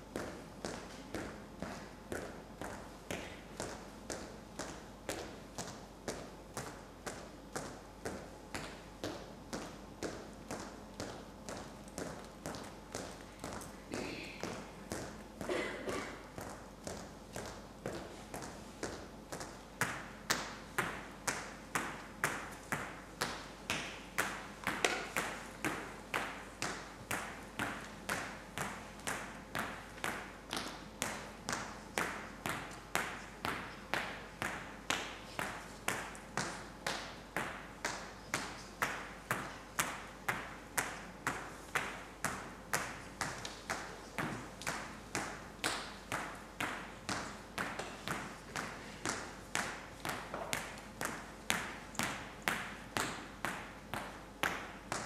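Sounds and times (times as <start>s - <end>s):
hard-soled footsteps echoing in hall: 0.0s - 55.0s.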